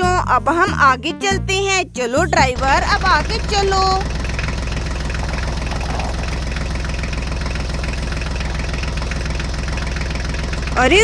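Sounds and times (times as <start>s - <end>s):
tractor diesel engine chugging: 1.6s - 11.0s.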